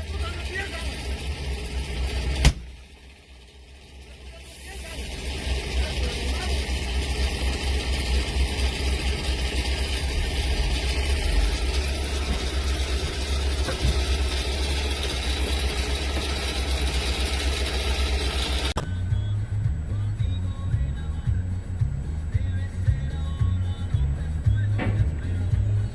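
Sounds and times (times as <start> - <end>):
road and cabin noise: 0.0 - 25.9
vehicle engine running: 0.0 - 25.9.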